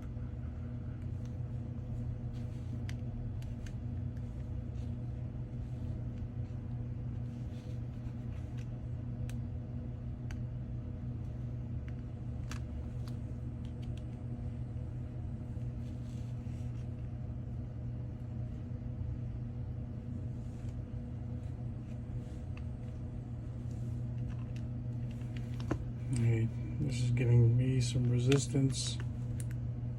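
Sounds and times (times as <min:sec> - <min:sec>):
low electrical hum: 0:00.0 - 0:29.9.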